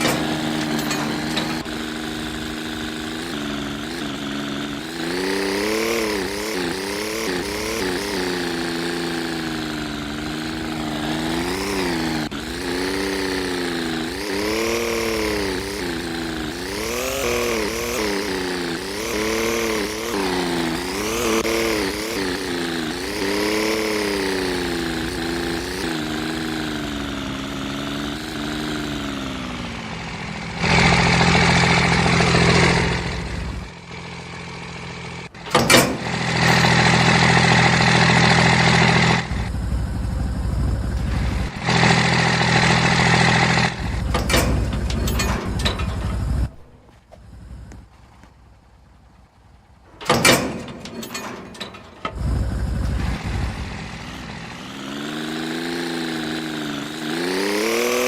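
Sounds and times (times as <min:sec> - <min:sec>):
engine revving up and down: 0:00.0 - 0:48.2, 0:50.0 - 0:58.0.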